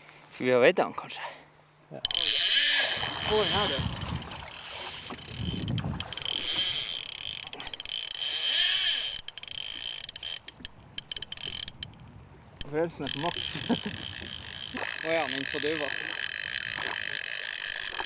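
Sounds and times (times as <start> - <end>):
fishing reel drag buzzing: 2.0 - 12.0, 12.6 - 18.0.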